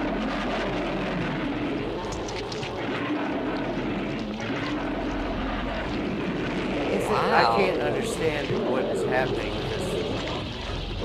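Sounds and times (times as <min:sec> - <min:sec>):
dense roaring rumble: 0:00.0 - 0:11.0
faint low drone: 0:00.0 - 0:11.0.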